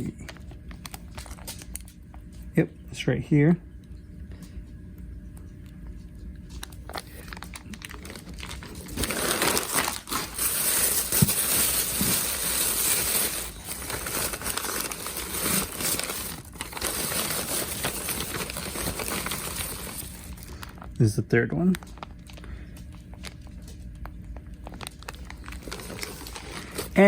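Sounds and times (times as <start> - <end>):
packaging crinkling and rustling: 0.0 - 2.6, 5.8 - 27.0.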